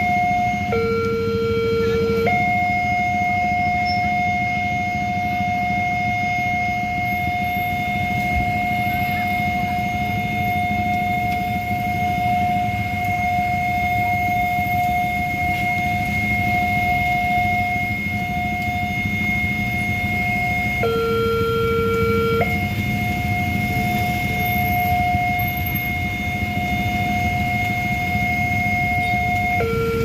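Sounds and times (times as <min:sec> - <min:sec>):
level crossing warning siren: 0:00.0 - 0:30.0.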